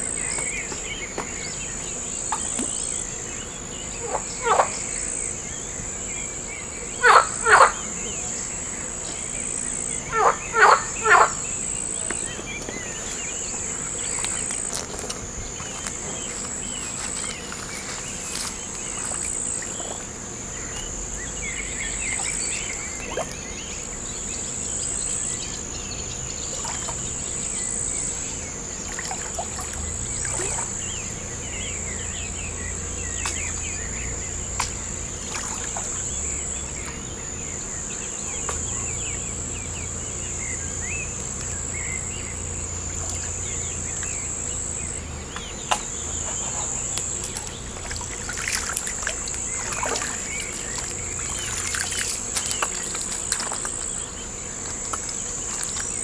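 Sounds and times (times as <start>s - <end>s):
crickets chirping chorus: 0.0s - 56.0s
trickling water: 10.0s - 37.6s, 38.6s - 56.0s.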